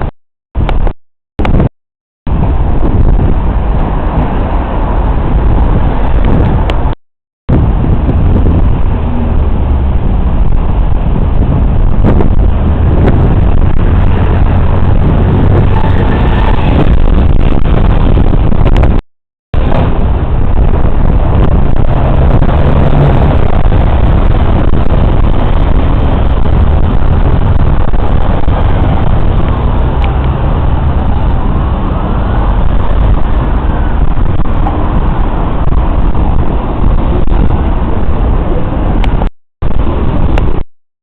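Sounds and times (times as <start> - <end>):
passing traffic rumbling: 2.3 - 19.0, 19.6 - 40.6.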